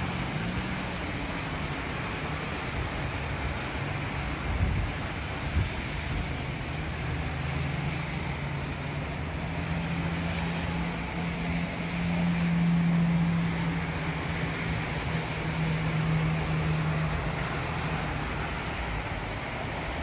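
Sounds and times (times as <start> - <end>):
street noise: 0.0 - 20.0
wind hiss: 0.0 - 20.0.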